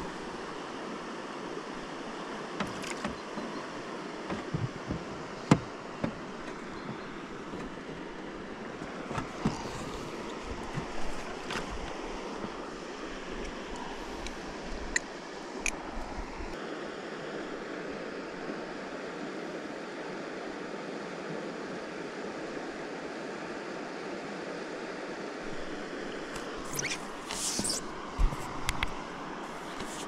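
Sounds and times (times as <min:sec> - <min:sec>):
small waves lapping: 0:00.0 - 0:23.1, 0:25.2 - 0:30.0.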